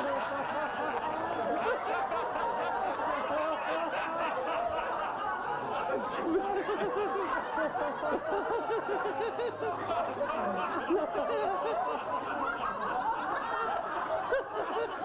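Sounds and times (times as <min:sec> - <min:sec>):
crowd laughing: 0:00.0 - 0:15.0.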